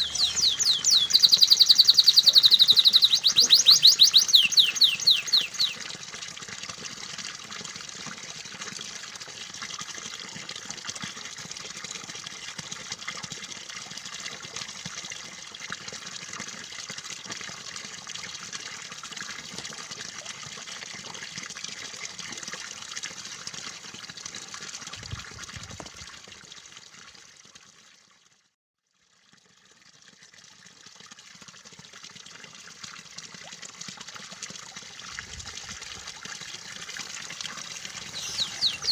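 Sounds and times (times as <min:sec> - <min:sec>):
flowing trickling water: 0:00.0 - 0:38.9.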